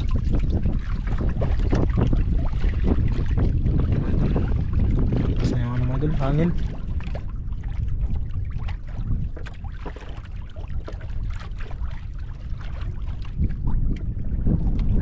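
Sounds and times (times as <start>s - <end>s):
water splashes: 0.0s - 15.0s
wind buffeting microphone: 0.0s - 15.0s.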